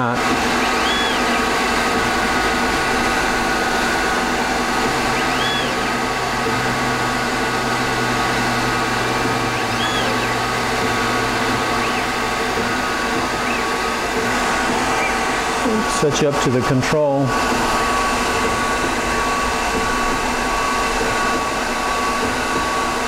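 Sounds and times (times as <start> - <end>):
lathe spindle hum and whine: 0.0 - 23.0
stepper motor whines: 0.0 - 23.0.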